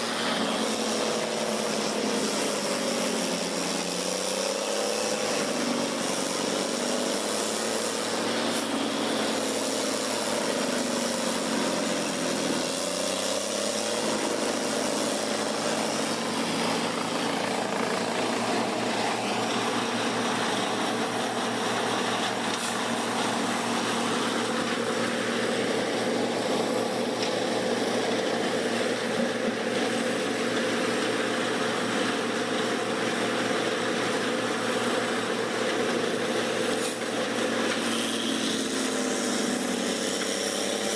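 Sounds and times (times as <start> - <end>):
wood grinder engine droning: 0.0 - 40.9.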